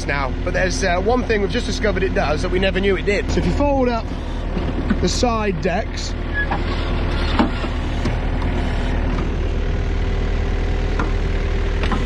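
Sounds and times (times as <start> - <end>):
mower diesel engine running: 0.0 - 12.0
steady whine: 0.0 - 12.0.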